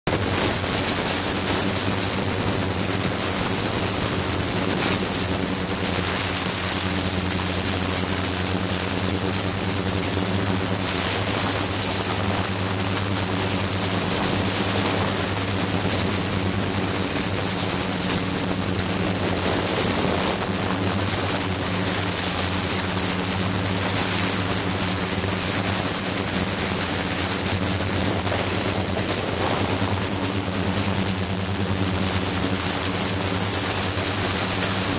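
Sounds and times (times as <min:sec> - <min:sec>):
faint high whines: 0:00.1 - 0:34.9
ultrasonic cleaner hum: 0:00.1 - 0:34.9.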